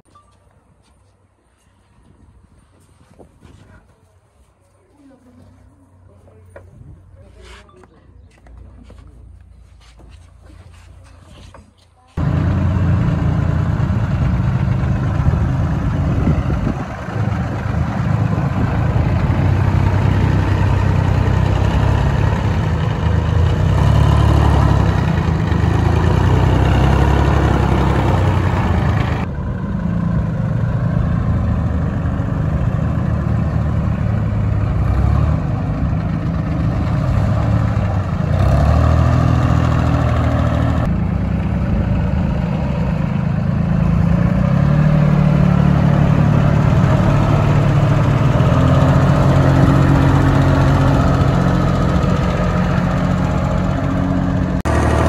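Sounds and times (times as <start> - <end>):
diesel tractor engines running: 0.0 - 55.0.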